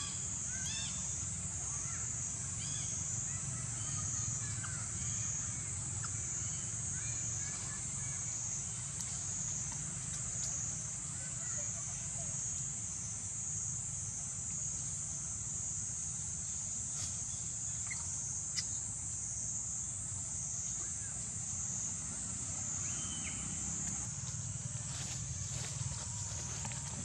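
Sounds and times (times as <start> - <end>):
insect chorus drone: 0.0 - 27.0.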